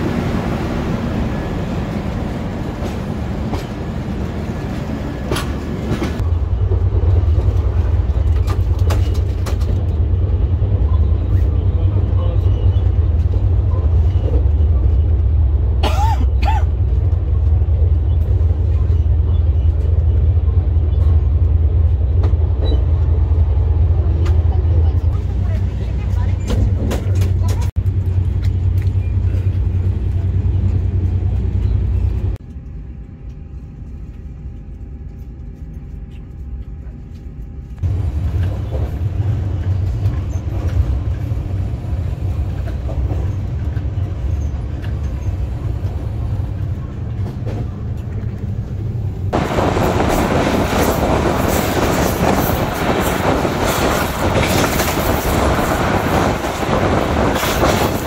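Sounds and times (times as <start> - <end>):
train coach low rumble: 0.0 - 58.0
wind rush and wheel-on-rail noise: 0.0 - 58.0.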